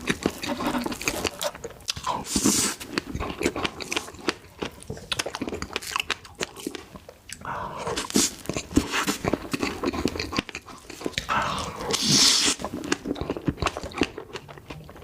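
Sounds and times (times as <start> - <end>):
crunchy biting and chewing: 0.0 - 15.0.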